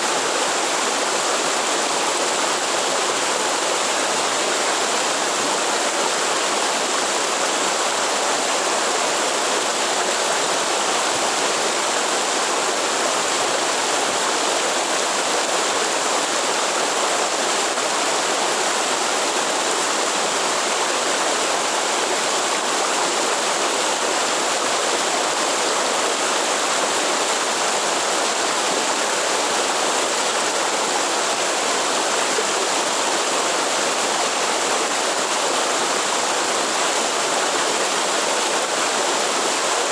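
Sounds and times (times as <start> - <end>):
water rushing from waterfall: 0.0 - 39.9.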